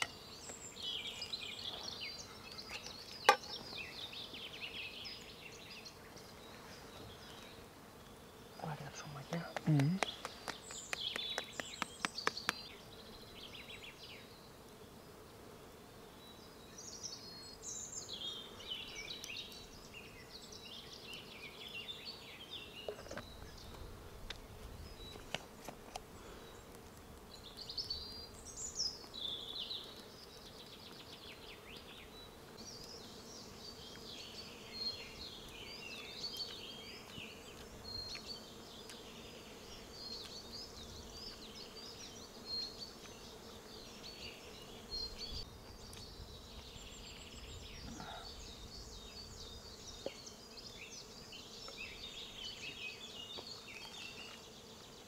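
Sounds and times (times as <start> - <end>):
faint insect buzz: 0.0 - 55.0
small birds chirping: 0.0 - 55.0.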